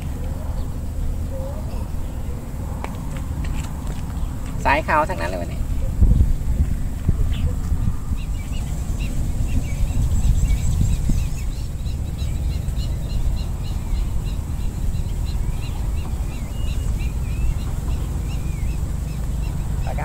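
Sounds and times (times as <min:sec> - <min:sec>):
small birds chirping: 0:00.0 - 0:20.0
wind buffeting microphone: 0:00.0 - 0:20.0.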